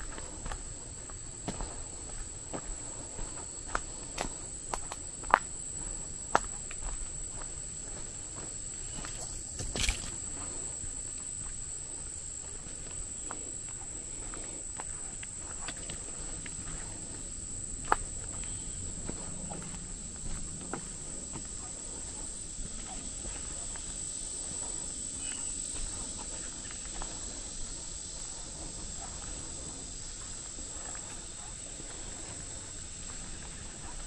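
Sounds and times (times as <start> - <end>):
footsteps on dirt trail: 0.0 - 34.0
high-pitched insect drone: 0.0 - 34.0.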